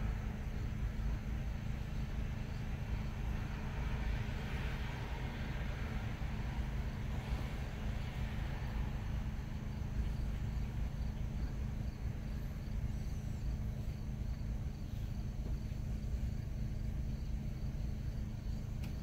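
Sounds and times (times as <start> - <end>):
car engine idling: 0.0 - 19.0
crickets chirping: 0.0 - 19.0.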